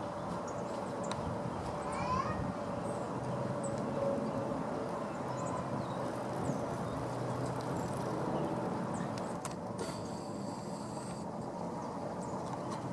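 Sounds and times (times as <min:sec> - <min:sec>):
distant road traffic rumble: 0:00.0 - 0:12.9.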